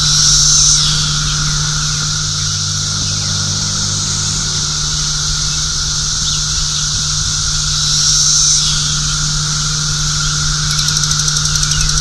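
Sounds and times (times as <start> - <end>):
cicadas droning: 0.0 - 12.0
low steady hum: 0.0 - 12.0.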